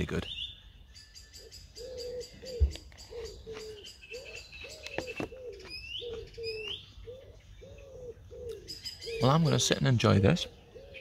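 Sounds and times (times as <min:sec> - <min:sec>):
small birds chirping: 0:00.0 - 0:11.0
pigeons cooing: 0:01.2 - 0:11.0.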